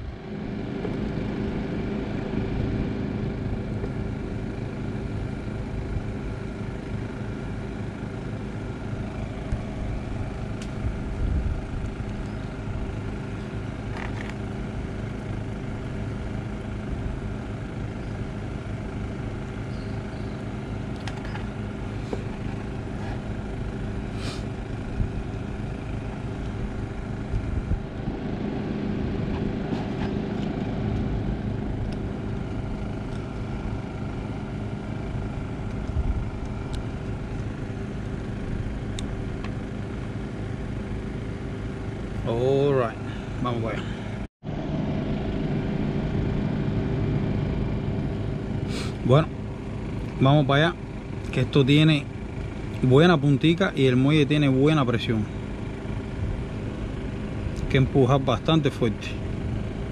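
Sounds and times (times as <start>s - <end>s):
motor humming: 0.0s - 59.9s.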